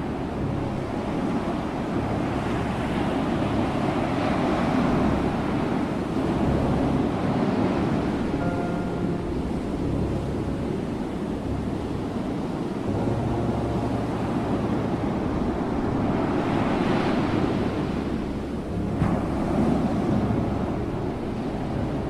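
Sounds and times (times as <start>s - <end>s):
steady low surf rumble: 0.0s - 22.0s
waves washing and breaking: 0.0s - 22.0s.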